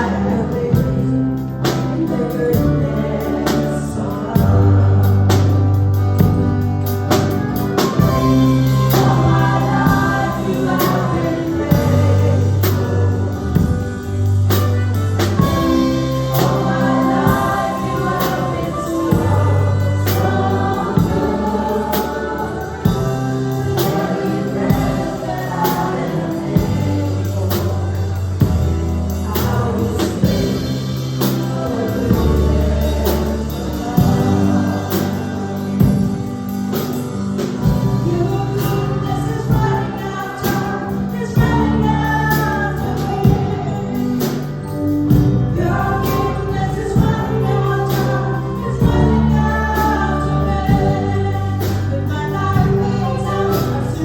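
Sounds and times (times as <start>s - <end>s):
bass notes: 0.0s - 54.0s
group singing gospel song: 0.0s - 54.0s.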